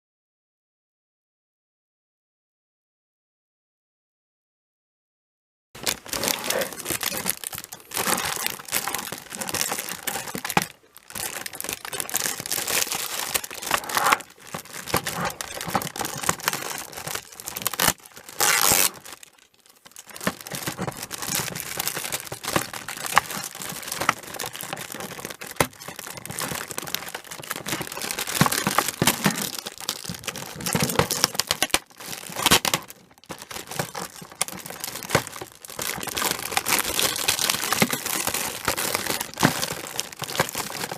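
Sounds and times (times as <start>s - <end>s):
packaging crinkling and rustling: 5.8s - 40.9s.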